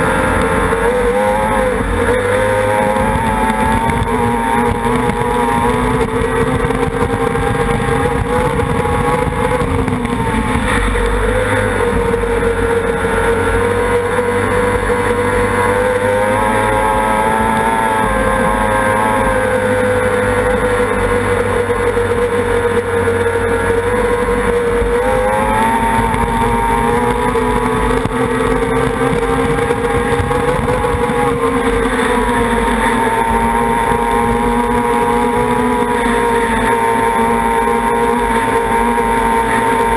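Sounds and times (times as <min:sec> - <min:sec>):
racing outboard engine high note: 0:00.0 - 0:39.9.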